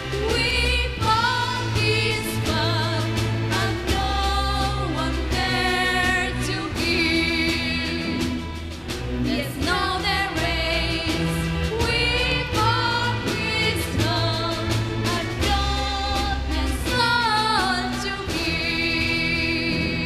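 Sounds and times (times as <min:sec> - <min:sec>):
woman singing with vibrato: 0:00.0 - 0:08.6, 0:09.2 - 0:20.0
string orchestra: 0:00.0 - 0:20.0.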